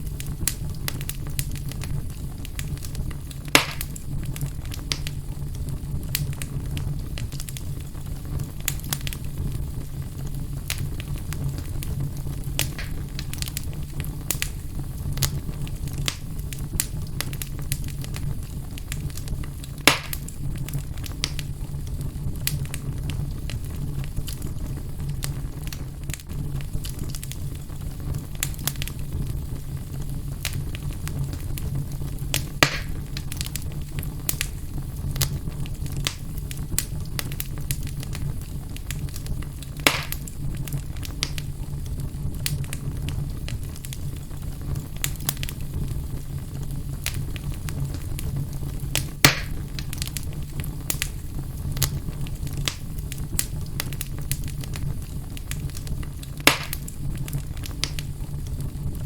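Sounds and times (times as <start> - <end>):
fire crackling: 0.0 - 59.0
fire rumbling in fireplace: 0.0 - 59.0
sharp pops of fire: 0.0 - 59.0.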